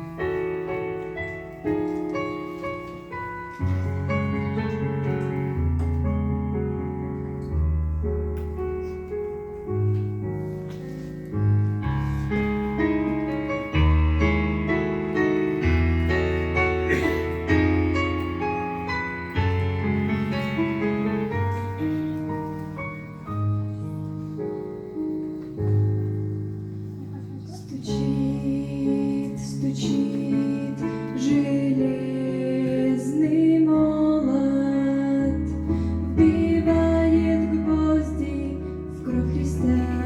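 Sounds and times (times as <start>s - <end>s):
slow keyboard chords: 0.0s - 40.0s.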